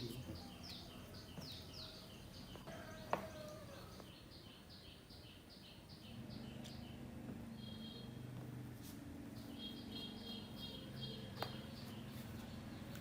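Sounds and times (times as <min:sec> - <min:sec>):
small bird chirping: 0:00.0 - 0:08.3, 0:09.3 - 0:13.0.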